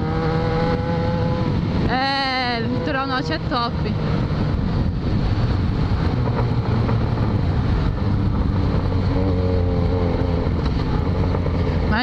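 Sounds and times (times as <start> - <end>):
motorcycle engine cruising: 0.0 - 12.0
wind rushing past camera: 0.0 - 12.0.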